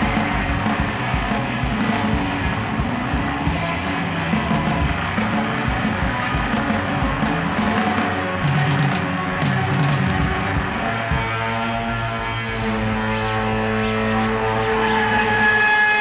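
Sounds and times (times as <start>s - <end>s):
drum kit playing: 0.0s - 16.0s
electric guitar: 0.0s - 16.0s.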